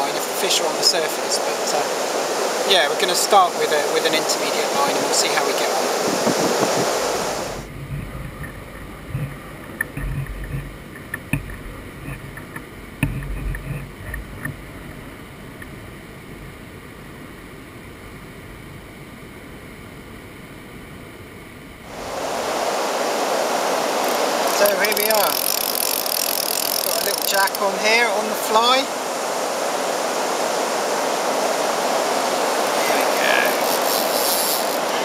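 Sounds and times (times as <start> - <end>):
rush of wind and water: 0.0 - 35.0
steady faint hiss: 0.0 - 35.0.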